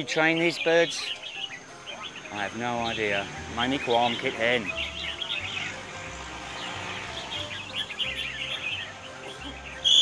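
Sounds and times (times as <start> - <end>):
songbirds chirping and trilling: 0.0 - 10.0.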